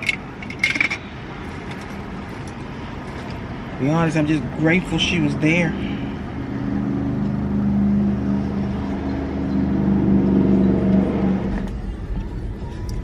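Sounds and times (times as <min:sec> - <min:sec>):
car engine drone inside cabin: 0:00.0 - 0:13.0.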